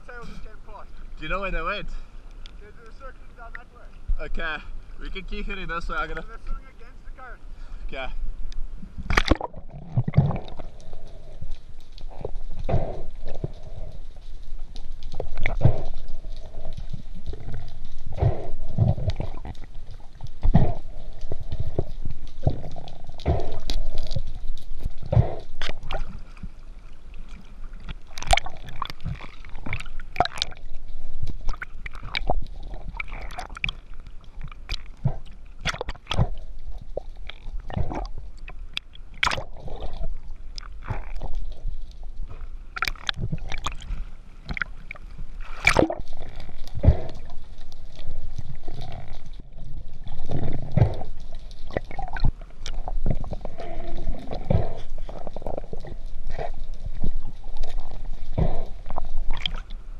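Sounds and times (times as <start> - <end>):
water gurgling underwater: 8.7 - 59.9.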